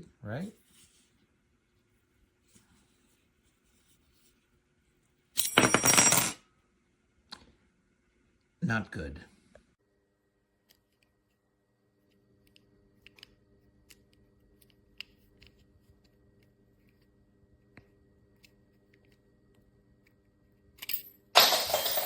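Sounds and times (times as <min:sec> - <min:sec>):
faint steady hum: 0:00.0 - 0:21.4.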